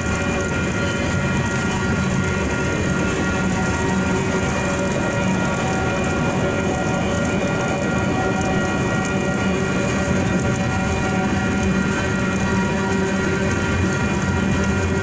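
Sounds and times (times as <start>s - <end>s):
crossing warning bells: 0.6s - 14.9s.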